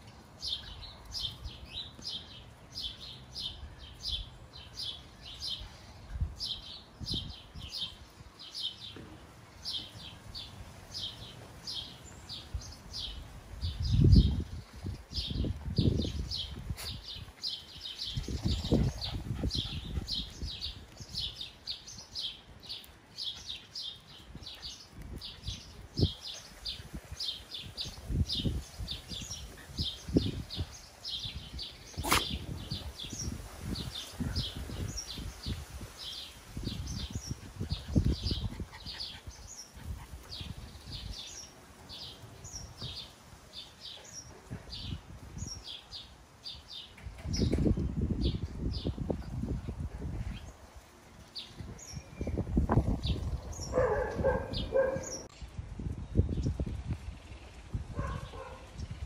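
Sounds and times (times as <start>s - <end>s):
small birds chirping: 0.1s - 59.0s.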